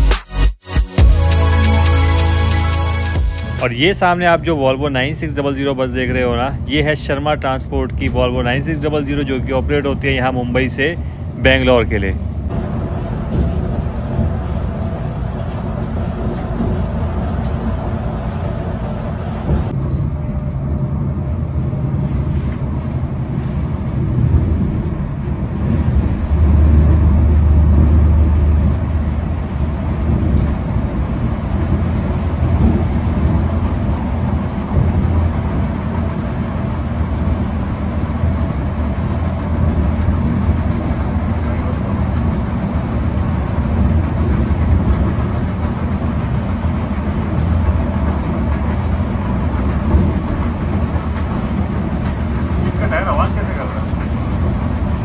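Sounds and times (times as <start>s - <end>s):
bus engine and tyres rumbling: 3.6s - 55.0s.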